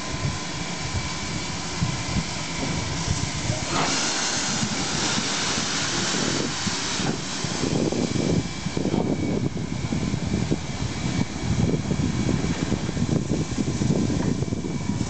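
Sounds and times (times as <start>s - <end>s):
low engine rumble: 0.0s - 15.0s
steam hissing: 0.0s - 15.0s.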